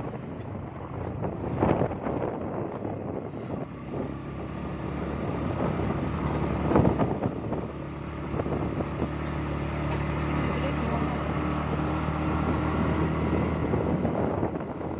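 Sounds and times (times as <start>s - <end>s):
vehicle engine running: 0.0s - 14.9s.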